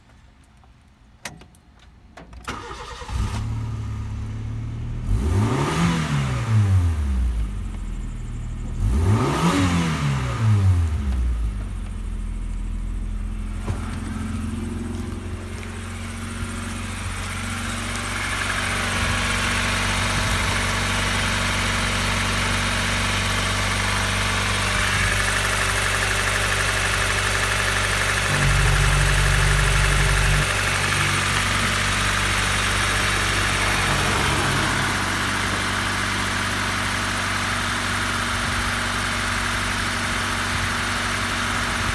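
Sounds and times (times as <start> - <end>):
car engine starting and revving: 2.5 - 41.9.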